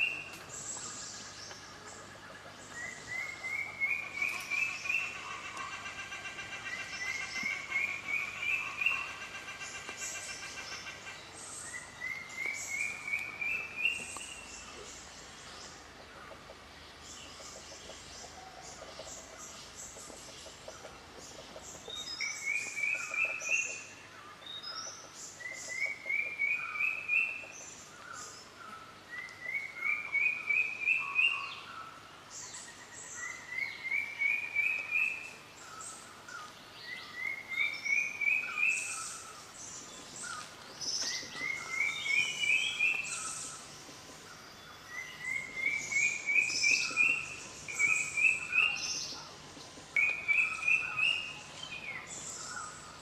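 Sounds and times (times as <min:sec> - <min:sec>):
birds calling low notes: 0:00.0 - 0:53.0.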